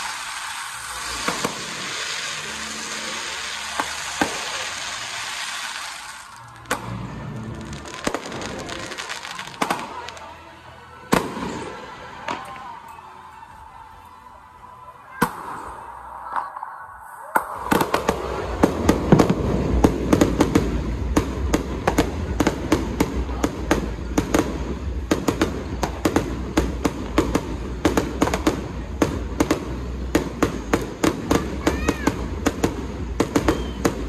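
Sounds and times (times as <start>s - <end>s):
fireworks bangs and crackles: 0.0s - 12.8s, 15.1s - 34.0s.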